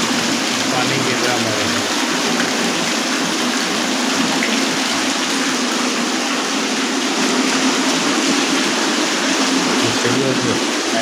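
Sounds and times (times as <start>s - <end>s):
fountain water splashing on floor: 0.0s - 11.0s.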